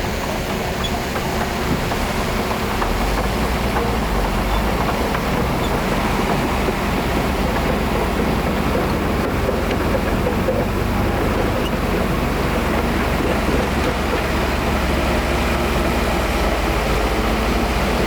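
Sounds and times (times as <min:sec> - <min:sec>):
diesel engine rumble: 0:00.0 - 0:18.0.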